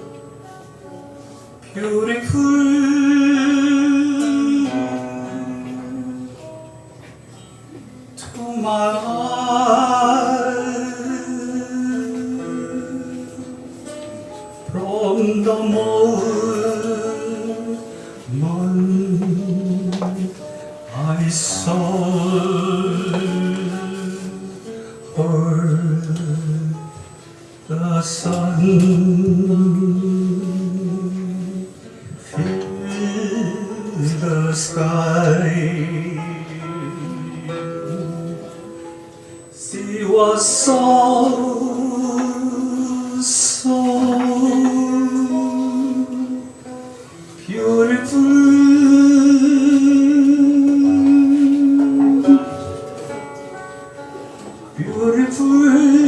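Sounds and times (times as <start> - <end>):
guitar: 0.0 - 56.0
person singing slow song: 0.0 - 56.0.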